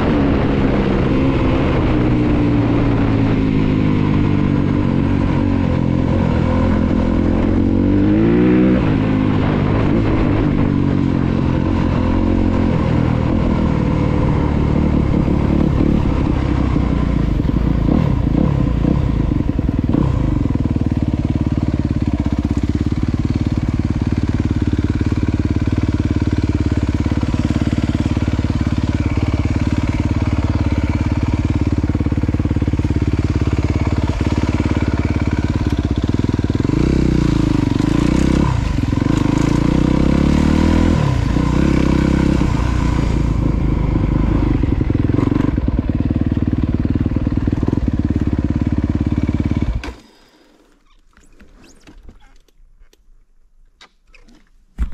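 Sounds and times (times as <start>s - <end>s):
dirt bike engine revving and idling: 0.0s - 50.7s.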